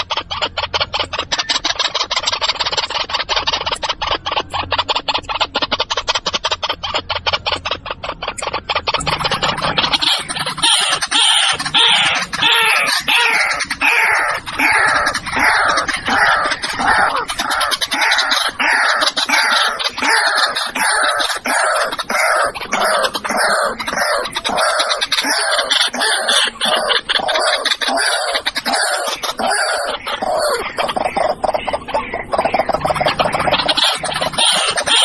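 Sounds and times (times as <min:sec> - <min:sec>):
bird calling harsh descending notes: 0:00.0 - 0:35.0.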